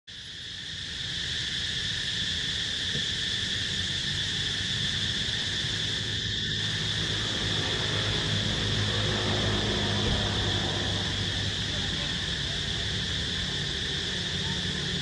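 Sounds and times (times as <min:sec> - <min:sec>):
high-pitched insect drone: 0:00.1 - 0:15.0.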